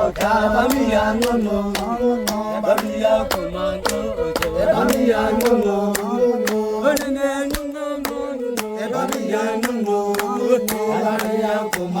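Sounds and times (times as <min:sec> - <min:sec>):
chanted singing: 0:00.0 - 0:12.0
steady held drone: 0:00.0 - 0:12.0.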